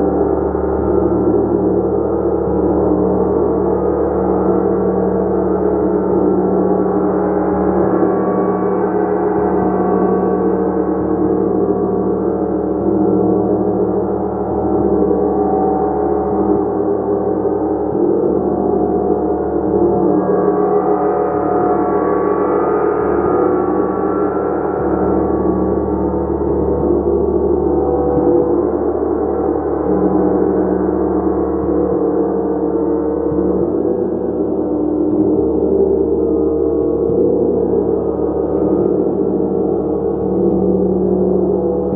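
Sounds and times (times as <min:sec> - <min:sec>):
gong played continuously: 0:00.0 - 0:41.9.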